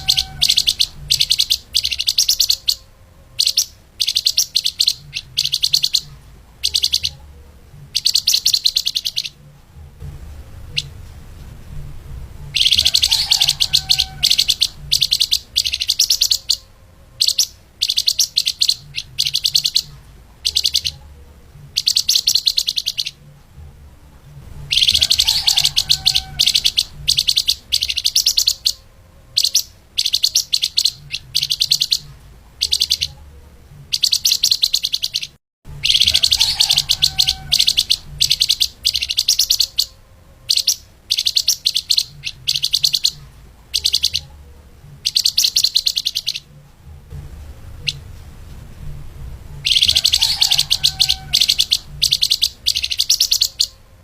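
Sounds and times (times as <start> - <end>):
songbird singing high-pitched song: 0.0 - 11.1, 11.9 - 23.6, 24.3 - 46.7, 47.8 - 48.0, 49.5 - 54.0.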